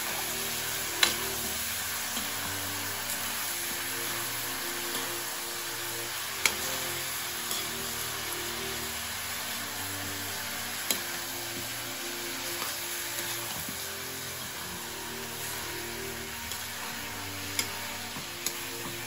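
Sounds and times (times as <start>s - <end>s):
chicken sizzling in a wok: 0.0s - 19.0s
soft background music: 0.0s - 19.0s.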